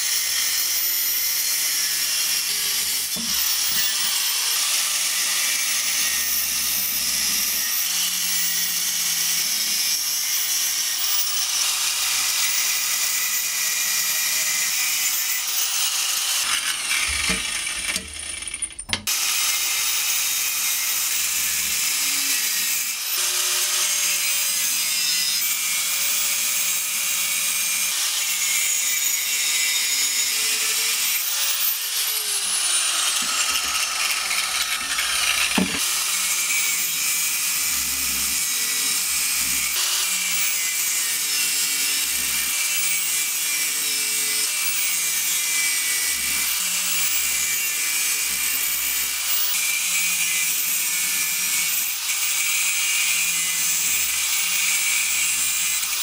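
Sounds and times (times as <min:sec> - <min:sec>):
grinder grinding steel: 0:00.0 - 0:56.0.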